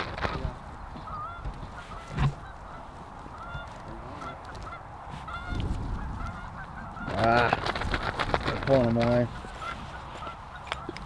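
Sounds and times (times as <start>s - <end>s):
distant geese honking: 0.0s - 11.0s
low rumble of wind: 0.0s - 11.0s.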